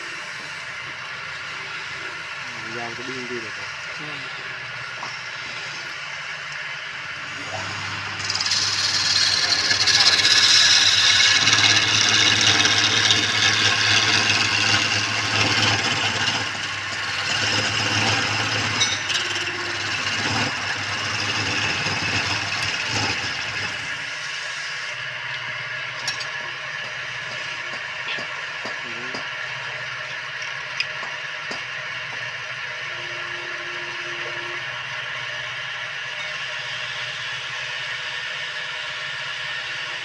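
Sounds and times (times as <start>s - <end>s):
lathe motor hum: 0.0s - 40.0s
tool cutting spinning wood: 0.0s - 40.0s.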